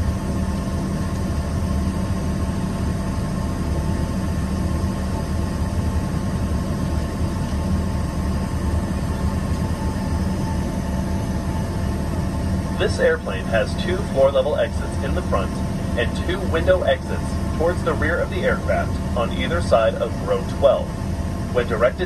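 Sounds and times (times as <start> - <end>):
jet cabin rumble and hum: 0.0 - 22.0.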